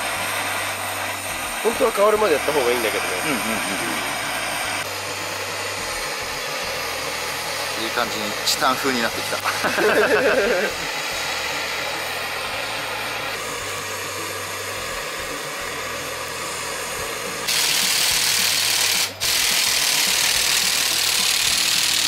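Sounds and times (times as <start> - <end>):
cordless power drill running: 0.0 - 22.0
torch flame hissing: 0.0 - 22.0.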